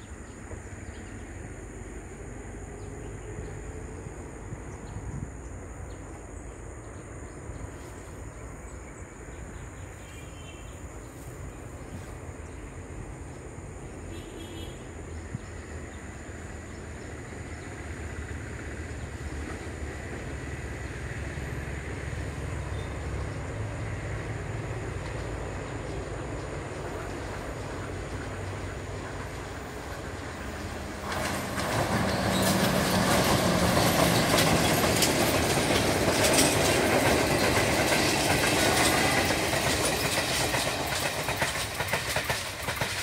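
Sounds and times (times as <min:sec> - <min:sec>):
train approaching rumble: 0:00.0 - 0:43.0.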